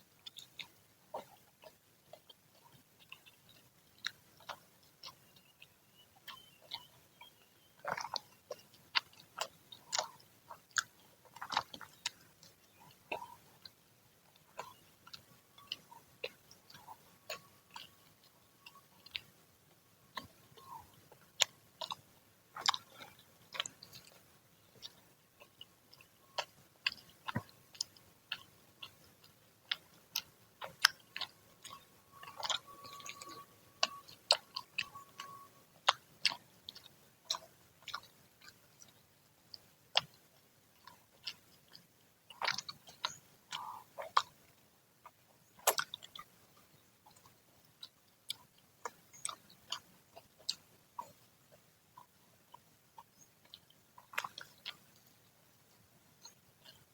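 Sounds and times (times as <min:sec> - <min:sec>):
crunchy fritters being chewed: 0:00.0 - 0:56.9
mouth clicks: 0:00.2 - 0:13.8, 0:14.4 - 0:19.5, 0:20.1 - 0:38.9, 0:42.3 - 0:44.4, 0:45.0 - 0:46.3, 0:47.1 - 0:51.3, 0:52.0 - 0:55.2.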